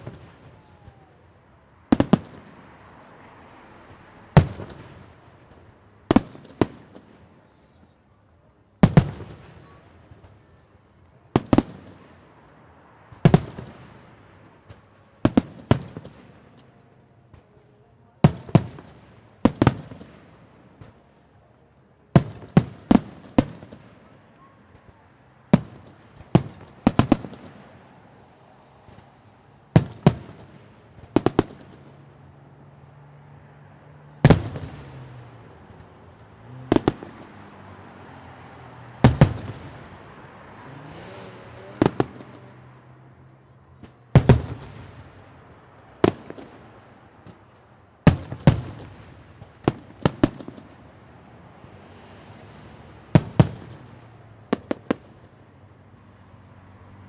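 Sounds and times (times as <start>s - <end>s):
fireworks bursting with sharp bangs: 0.0s - 8.1s, 8.8s - 33.3s, 34.0s - 51.2s, 51.8s - 56.0s.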